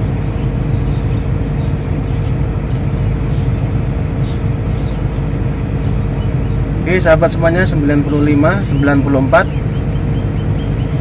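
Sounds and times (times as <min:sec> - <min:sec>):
diesel engine idling: 0:00.0 - 0:11.0
faint steady whine: 0:00.0 - 0:11.0.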